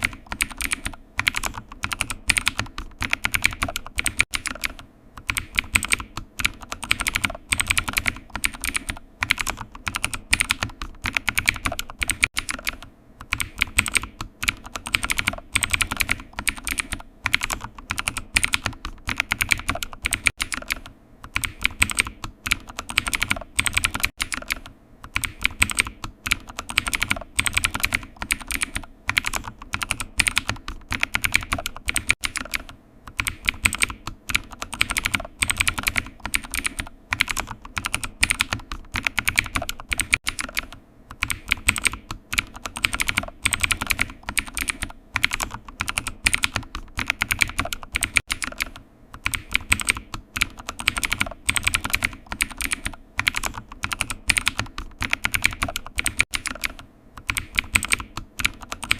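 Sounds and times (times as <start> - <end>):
typing on computer keyboard: 0.0 - 58.9.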